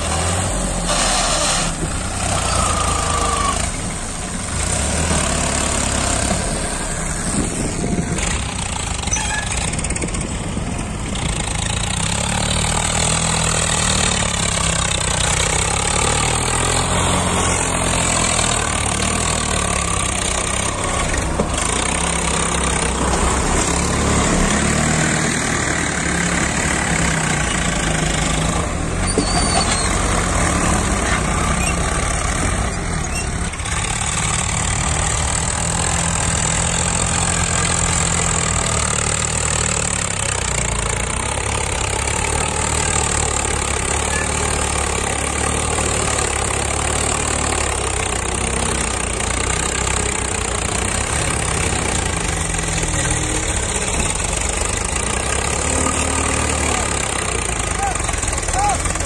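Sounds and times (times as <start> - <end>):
tractor diesel engines under load: 0.0 - 59.0.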